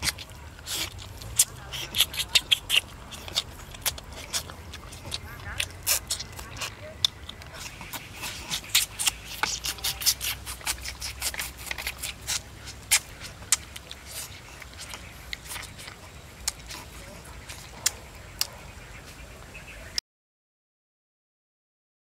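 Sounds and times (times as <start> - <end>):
man chewing and lip-smacking: 0.0 - 19.2.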